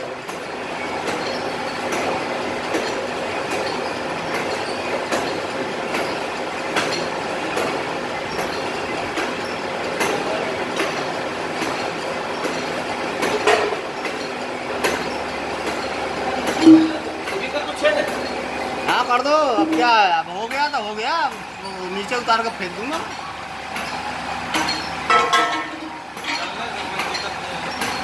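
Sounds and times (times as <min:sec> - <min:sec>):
hydraulic press hum: 0:00.2 - 0:28.0.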